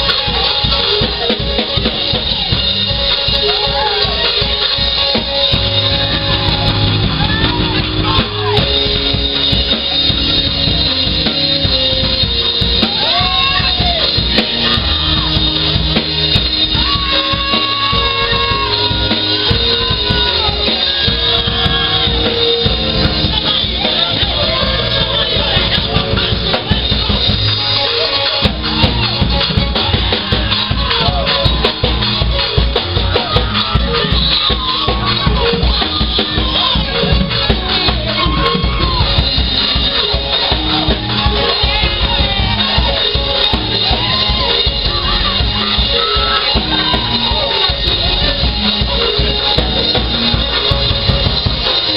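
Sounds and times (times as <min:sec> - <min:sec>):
live church band: 0:00.0 - 0:51.9.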